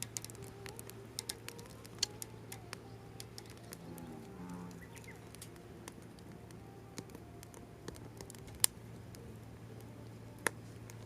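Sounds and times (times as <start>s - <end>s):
fire popping: 0.0s - 11.0s
wood fire crackling: 0.0s - 11.0s.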